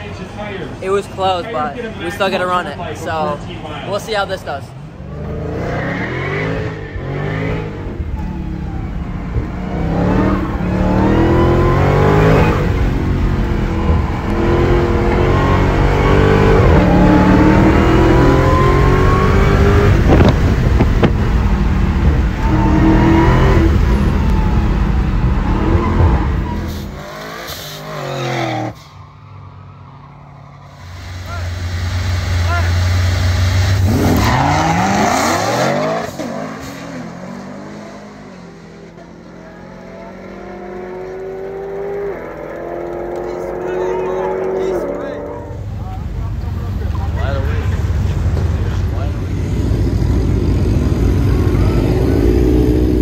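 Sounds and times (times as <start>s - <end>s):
car engine accelerating through gears: 5.0s - 28.9s, 30.6s - 53.0s.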